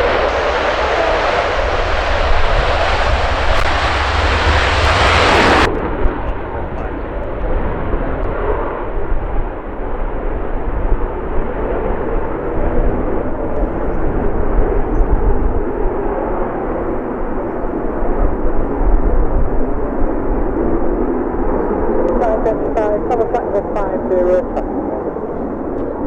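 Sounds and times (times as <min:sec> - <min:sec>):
jet engines at high power: 0:00.0 - 0:26.0.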